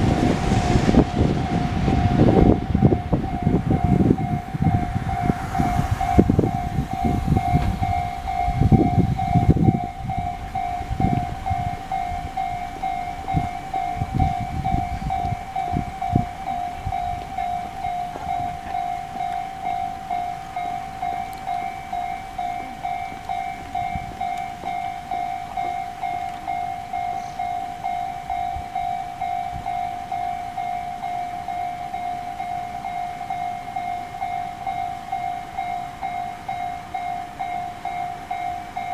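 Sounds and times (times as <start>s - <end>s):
train rumbling past: 0.0s - 38.9s
level crossing bells dinging: 1.6s - 38.9s.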